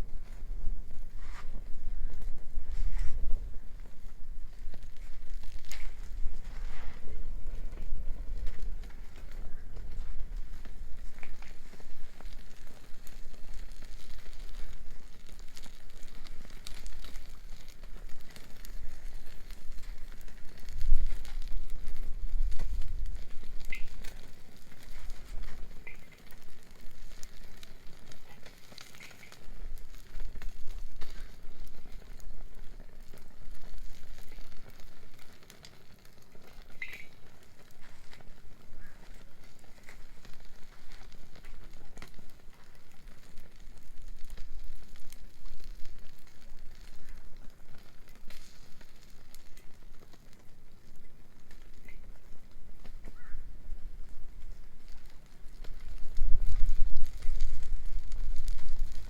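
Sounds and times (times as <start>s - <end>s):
bonfire crackling and popping: 0.0s - 59.0s.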